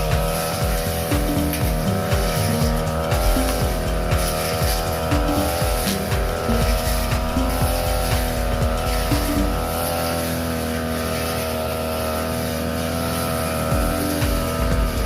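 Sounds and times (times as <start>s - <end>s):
brush cutter cutting grass: 0.0s - 15.0s.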